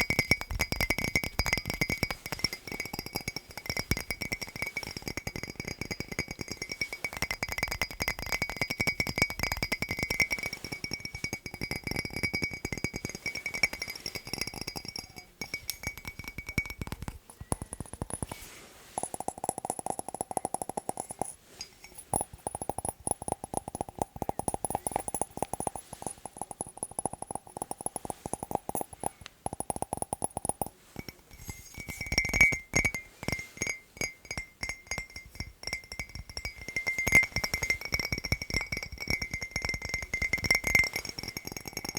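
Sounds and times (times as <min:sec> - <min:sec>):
fast tapping on ringing objects: 0:00.0 - 0:41.9.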